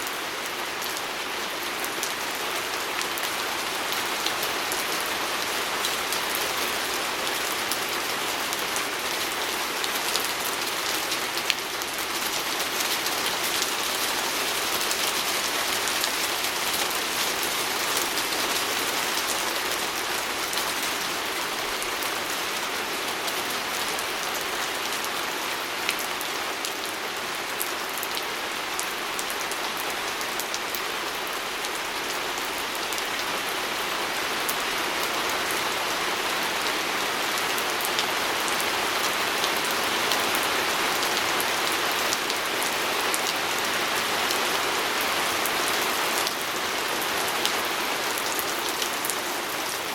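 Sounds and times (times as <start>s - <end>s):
rain pattering on a window: 0.0s - 49.9s.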